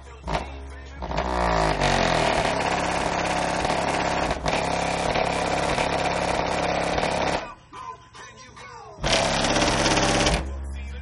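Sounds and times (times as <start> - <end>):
loud buzzing subwoofer bass: 0.0 - 7.7, 9.0 - 11.0.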